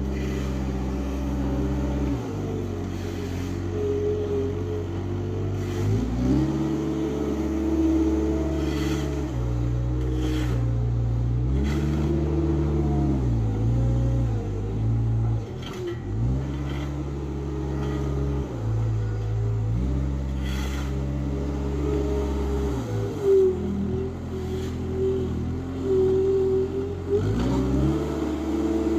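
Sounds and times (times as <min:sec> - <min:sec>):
diesel engine revving: 0:00.0 - 0:28.9.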